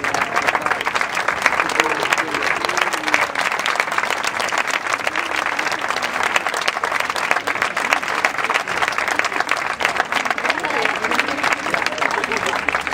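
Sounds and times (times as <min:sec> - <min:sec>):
crowd clapping: 0:00.0 - 0:12.9.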